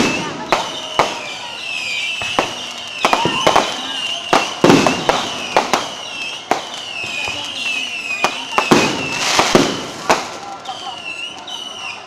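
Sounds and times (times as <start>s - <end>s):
firecracker bangs: 0.0s - 11.7s
firework whistling: 0.0s - 12.0s.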